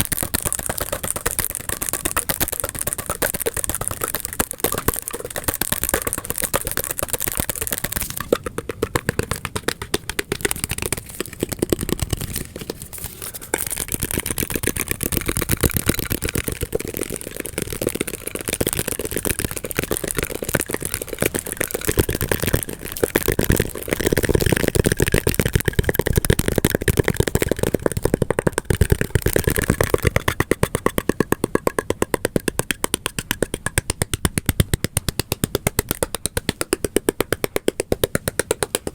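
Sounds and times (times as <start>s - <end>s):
very fast sharp tapping: 0.0s - 38.9s.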